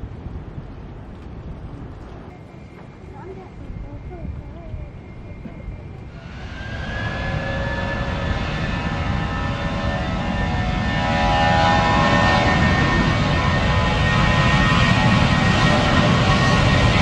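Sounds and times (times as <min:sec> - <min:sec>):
jet engines whining: 0:02.3 - 0:17.0.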